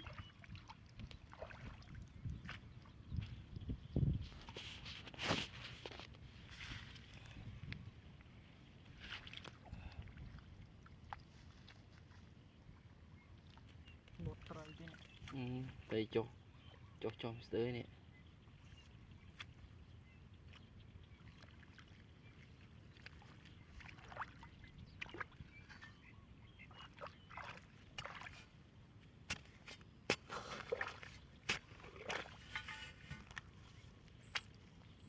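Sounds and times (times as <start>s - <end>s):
water sloshing and splashing: 0.0s - 3.6s, 4.2s - 16.0s, 20.4s - 35.0s.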